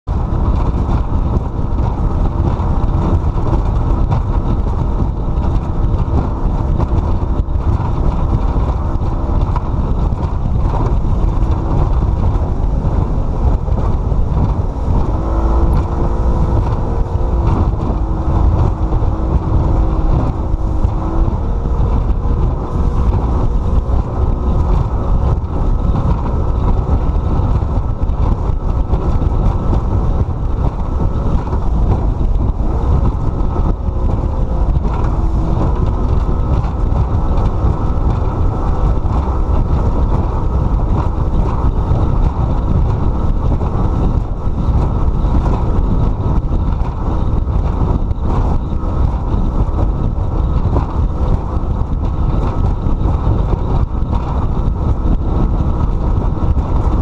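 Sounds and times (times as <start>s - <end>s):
motorboat engine running: 0.0s - 57.0s
wind buffeting microphone: 0.0s - 57.0s.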